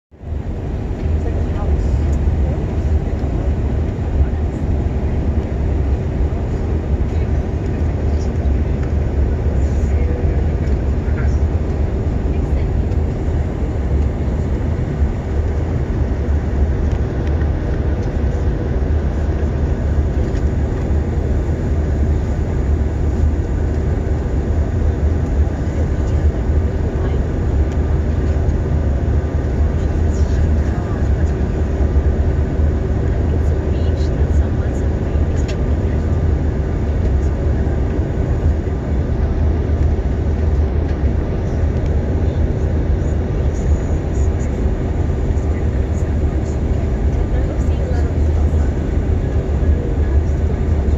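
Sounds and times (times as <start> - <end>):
airliner engine drone: 0.1 - 50.9
deep low rumble: 0.1 - 50.9.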